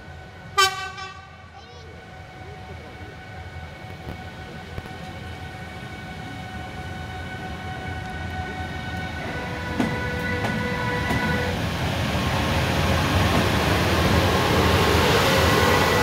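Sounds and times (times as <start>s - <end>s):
electric locomotive passing: 0.0s - 16.0s.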